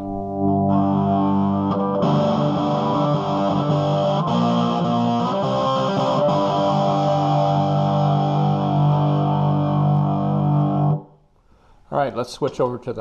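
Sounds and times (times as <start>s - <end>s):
distorted electric guitar: 0.0s - 11.1s.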